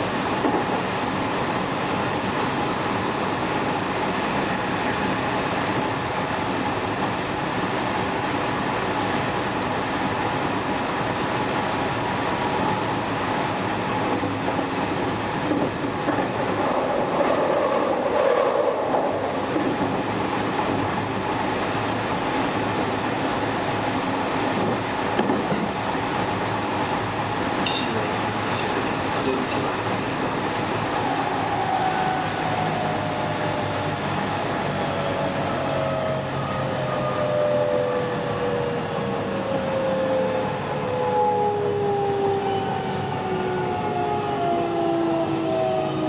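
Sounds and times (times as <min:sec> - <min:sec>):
train wheel noise over rail joints: 0:00.0 - 0:41.4.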